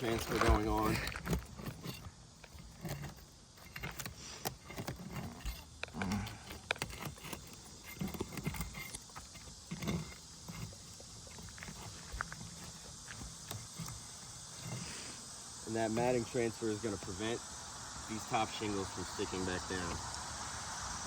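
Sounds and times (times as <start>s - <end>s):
metal bar scraping shingles: 0.0s - 17.0s.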